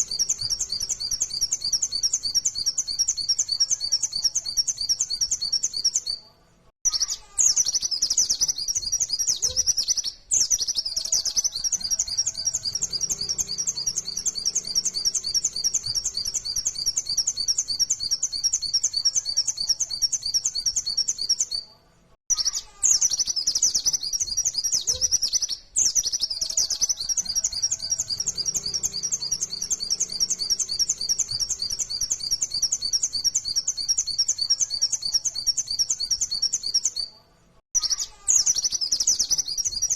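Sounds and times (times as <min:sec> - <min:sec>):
bird singing high chirps: 0:00.0 - 0:21.7, 0:22.3 - 0:39.9.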